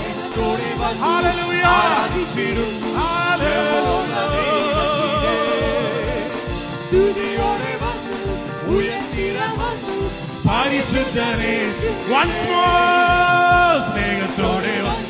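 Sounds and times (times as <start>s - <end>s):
drum beat: 0.0s - 15.0s
person singing: 0.0s - 15.0s
worship band playing: 0.0s - 15.0s.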